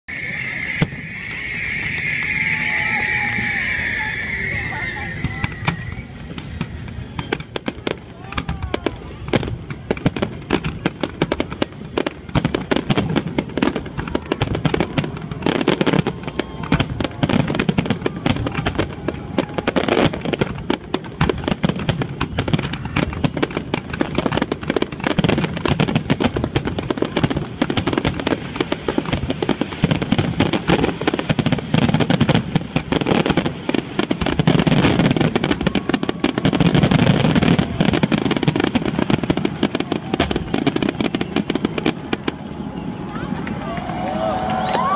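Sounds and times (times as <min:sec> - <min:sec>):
fireworks barrage of bangs: 0:00.1 - 0:44.9.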